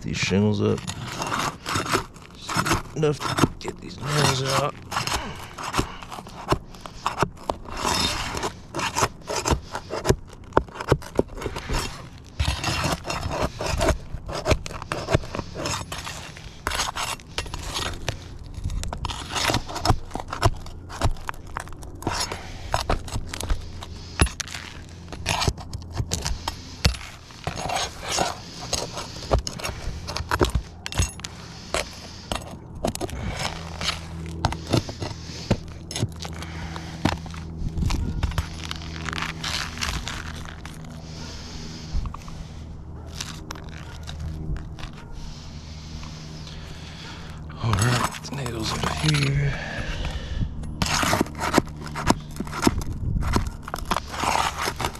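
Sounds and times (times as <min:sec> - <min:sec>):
sharp clicks and scrapes: 0:00.0 - 0:49.4, 0:50.6 - 0:54.9
flat bar scraping under shingles: 0:00.0 - 0:50.2, 0:50.8 - 0:54.9.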